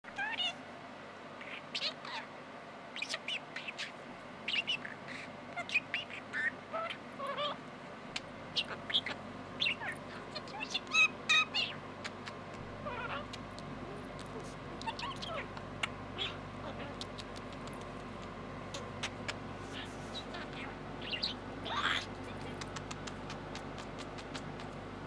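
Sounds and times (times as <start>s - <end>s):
budgerigar chattering: 1.4s - 2.3s, 3.0s - 7.6s, 8.2s - 24.7s.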